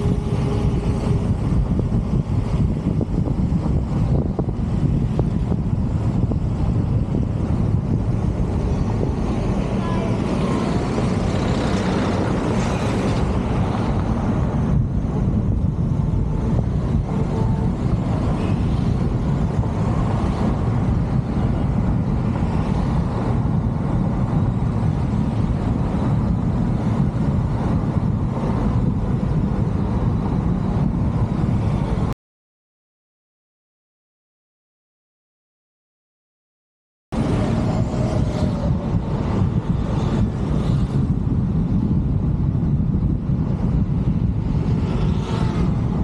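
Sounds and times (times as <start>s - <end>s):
wind and road noise: 0.0s - 32.2s, 37.1s - 46.0s.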